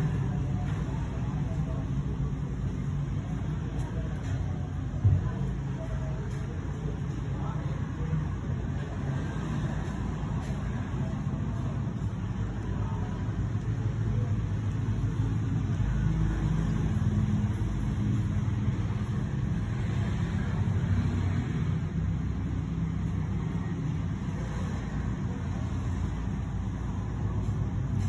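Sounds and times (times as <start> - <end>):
low mechanical rumble: 0.0 - 28.0.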